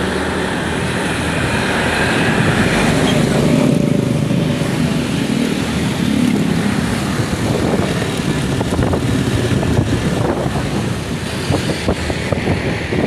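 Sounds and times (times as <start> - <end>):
road and wind noise: 0.0 - 13.0
vehicle engine rumble: 0.0 - 13.0.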